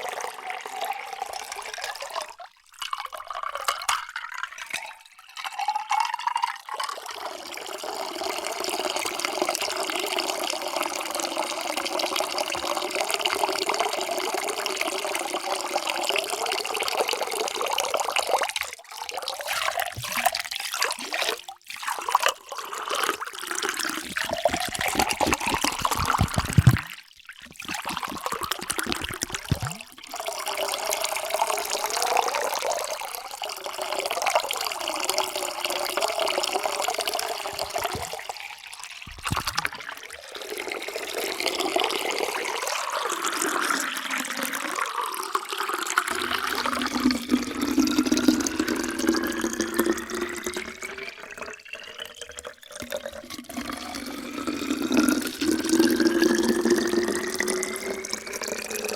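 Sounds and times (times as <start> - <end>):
water pouring into a container: 0.0 - 58.9.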